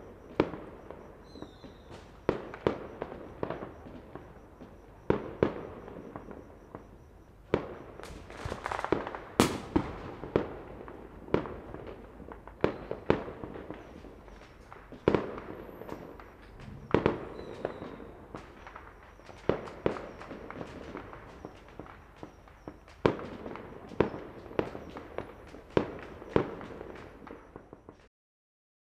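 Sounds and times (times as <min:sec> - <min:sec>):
firework bangs echoing: 0:00.0 - 0:28.0
firecrackers crackling: 0:00.0 - 0:28.1.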